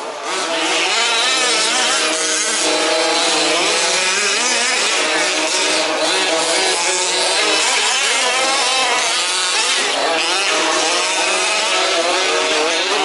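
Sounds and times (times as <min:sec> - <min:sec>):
small two-stroke engines revving: 0:00.0 - 0:13.0.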